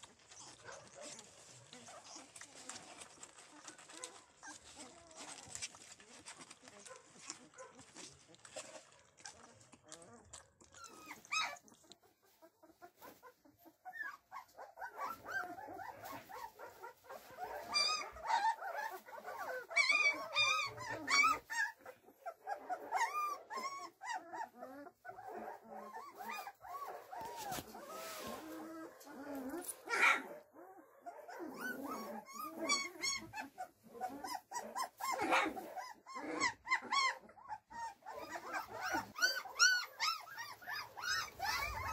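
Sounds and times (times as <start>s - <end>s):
puppies whimpering and yelping: 0.0s - 41.9s.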